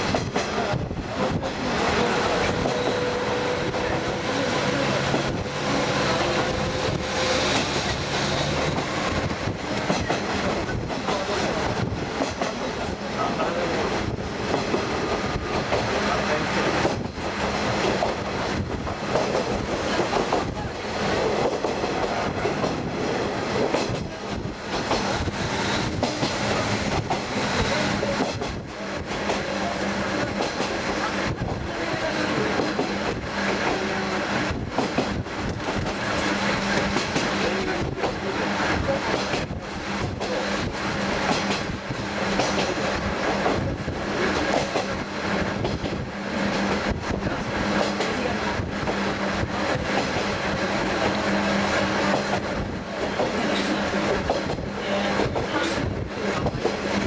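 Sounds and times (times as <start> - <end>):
rail-joint clickety-clack: 0.0 - 57.0
railcar engine hum: 0.0 - 57.0
wheel and track roar: 0.0 - 57.0.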